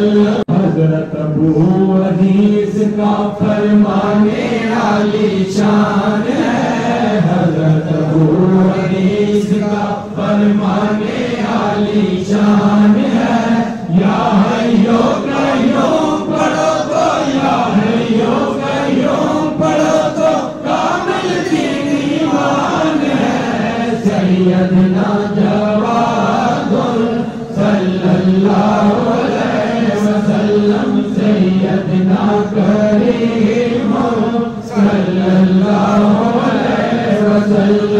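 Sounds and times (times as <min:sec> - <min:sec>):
men chanting: 0:00.0 - 0:37.9.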